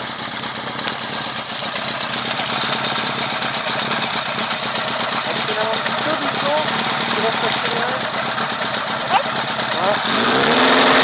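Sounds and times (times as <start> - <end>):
motorcycle engine idling: 0.0 - 10.3.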